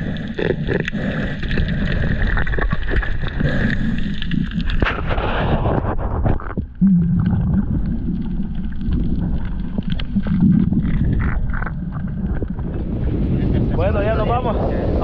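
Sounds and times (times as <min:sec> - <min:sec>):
small clicks underwater: 0:00.0 - 0:12.7
underwater low rumble: 0:00.0 - 0:15.0.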